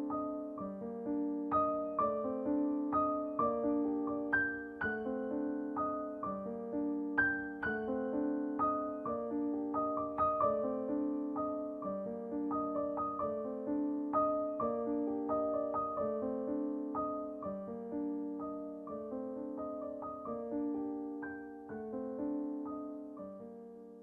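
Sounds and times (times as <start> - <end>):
gentle solo piano: 0.0 - 24.0.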